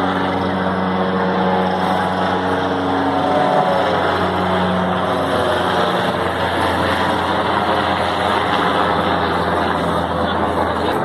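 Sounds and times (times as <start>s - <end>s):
helicopter drone overhead: 0.0s - 11.0s.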